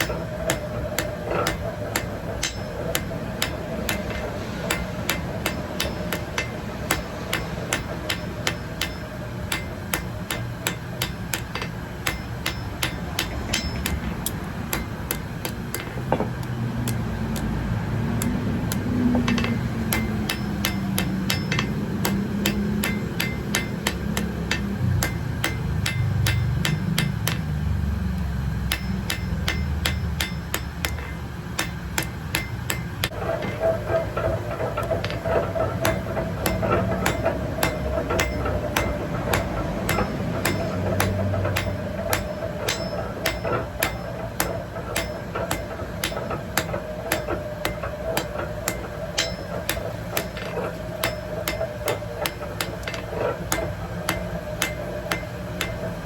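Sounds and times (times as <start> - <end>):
hammer striking metal on anvil: 0.0 - 56.0
low background rumble: 0.0 - 56.0
steady hum: 0.0 - 56.0.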